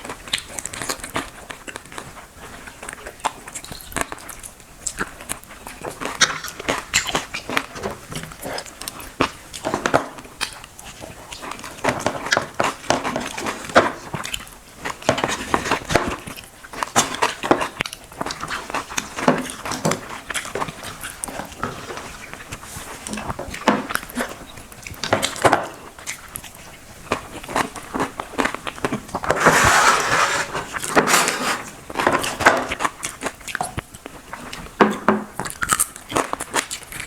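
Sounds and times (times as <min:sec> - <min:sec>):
wet smacking and chewing: 0:00.0 - 0:29.4, 0:31.7 - 0:37.0.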